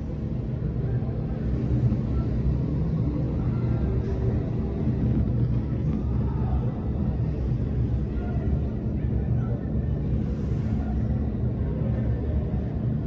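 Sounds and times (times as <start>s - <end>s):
muffled vehicle engines rumbling: 0.0s - 13.0s.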